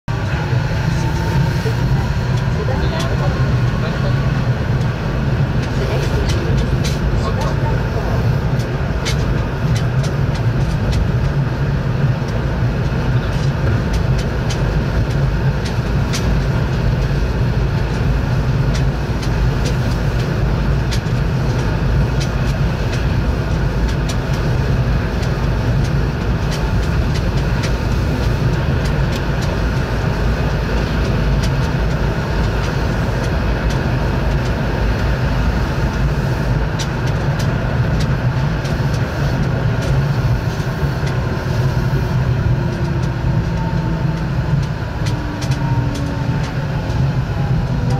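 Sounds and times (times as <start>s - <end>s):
train running rumble: 0.0s - 47.9s.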